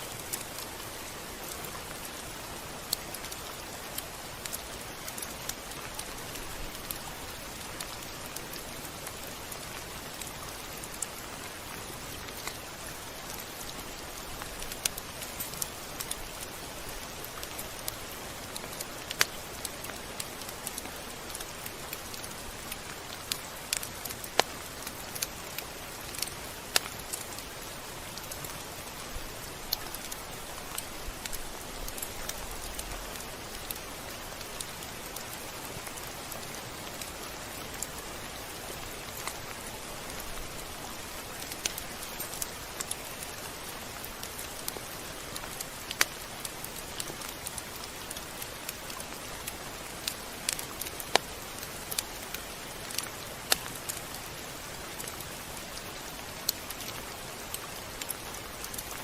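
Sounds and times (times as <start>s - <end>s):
rain hiss: 0.0s - 59.0s
raindrops ticking on a surface: 0.0s - 59.0s.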